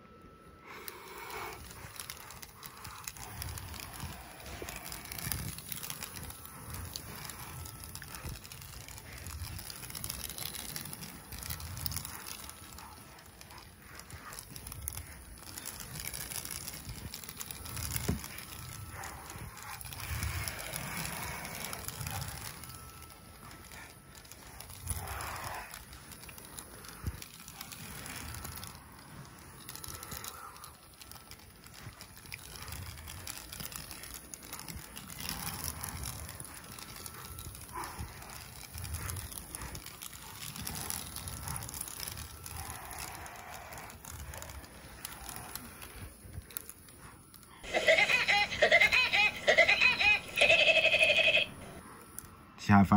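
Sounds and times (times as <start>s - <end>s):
toy car rolling on carpet: 0.0s - 52.8s.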